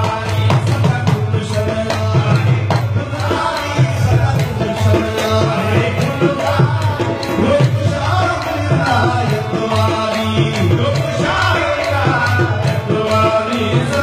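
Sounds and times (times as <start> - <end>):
group singing devotional song: 0.0 - 14.0
hand drum beat: 0.0 - 14.0.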